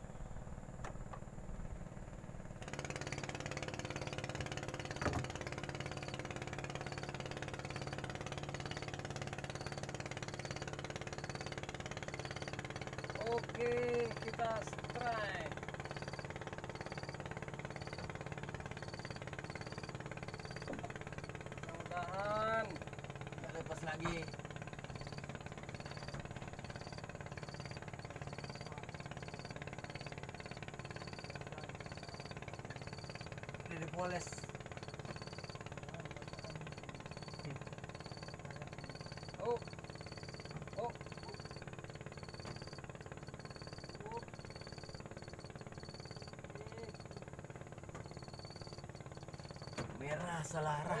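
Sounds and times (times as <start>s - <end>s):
boat engine idling: 0.0s - 51.0s.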